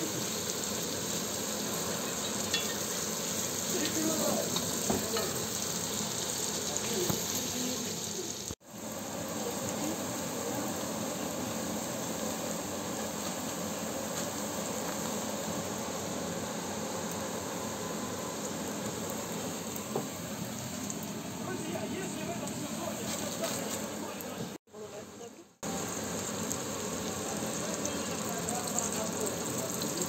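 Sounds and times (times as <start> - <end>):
mushrooms sizzling in a pan: 0.0 - 30.0.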